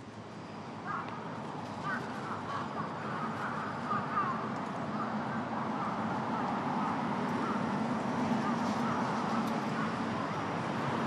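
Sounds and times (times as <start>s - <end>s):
city traffic rumble: 0.0s - 11.0s
crows cawing: 0.8s - 1.2s, 1.8s - 10.4s.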